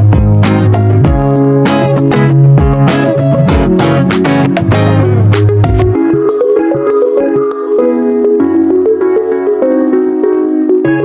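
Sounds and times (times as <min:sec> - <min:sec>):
background music with pulse: 0:00.0 - 0:11.0.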